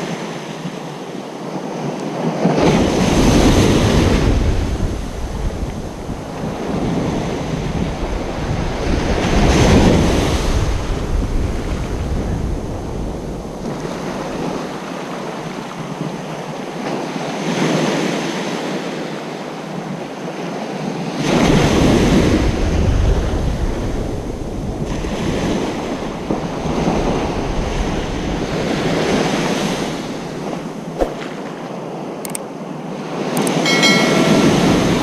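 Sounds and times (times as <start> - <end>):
wind rumbling on microphone: 0.0 - 17.8, 21.0 - 35.0
ocean surf breaking on beach: 0.0 - 35.0.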